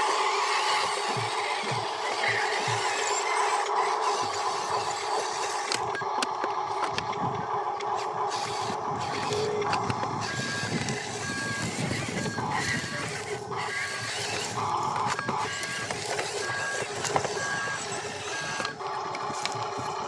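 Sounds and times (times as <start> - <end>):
noisy mechanical background: 0.0 - 20.0.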